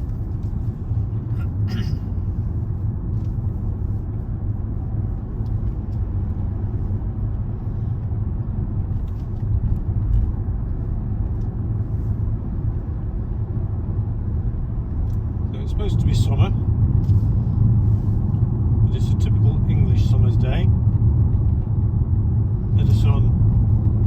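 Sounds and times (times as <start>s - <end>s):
road and engine rumble in car: 0.0s - 24.0s.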